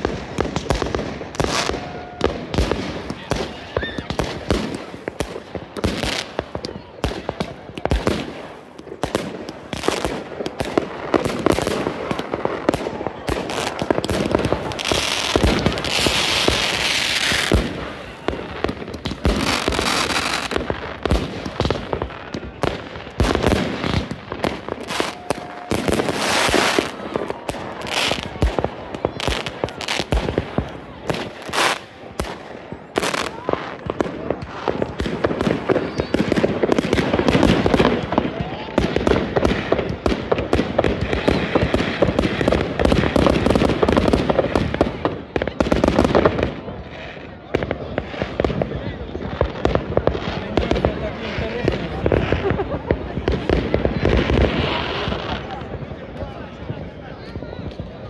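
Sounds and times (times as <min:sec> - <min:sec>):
fireworks bangs and pops: 0:00.0 - 0:58.0
fireworks crackling: 0:00.0 - 0:58.0.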